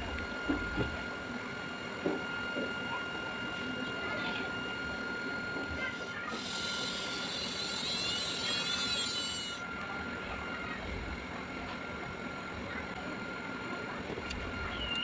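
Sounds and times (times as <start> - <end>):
small motor whining: 2.0 - 15.0.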